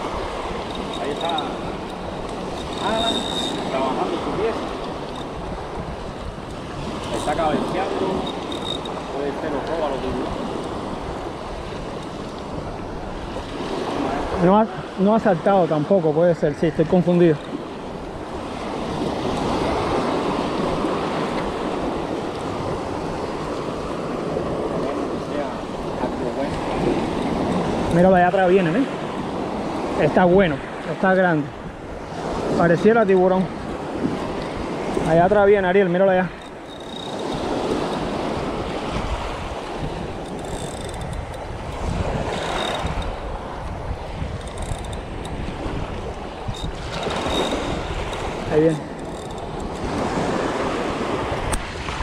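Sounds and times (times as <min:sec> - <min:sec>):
small waves breaking on beach: 0:00.0 - 0:44.4, 0:45.1 - 0:52.0
wind buffeting microphone: 0:00.0 - 0:52.0.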